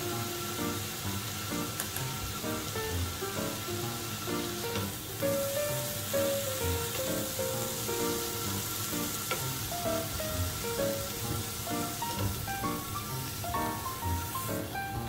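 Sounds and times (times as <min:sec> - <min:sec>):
background music: 0:00.0 - 0:15.0
meat sizzling on grill plate: 0:00.0 - 0:15.0.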